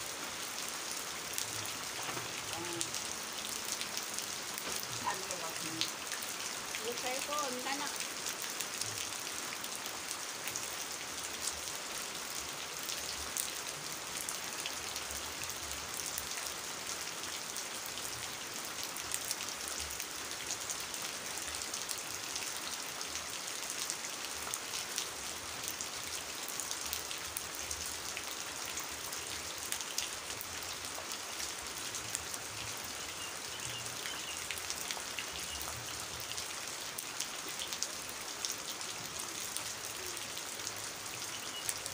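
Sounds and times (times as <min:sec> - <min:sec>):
rain falling on puddle and leaves: 0:00.0 - 0:41.9.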